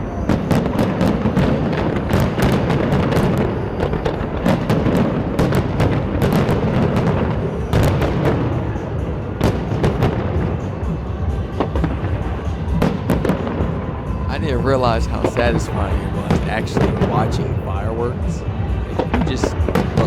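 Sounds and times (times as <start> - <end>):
music playing: 0.0 - 20.0
fireworks bursting: 0.1 - 11.0, 11.6 - 20.0.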